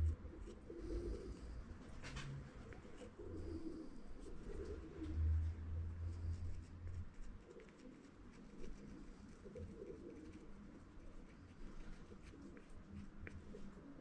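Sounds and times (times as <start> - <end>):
dove cooing: 0.0 - 5.5, 7.3 - 14.0.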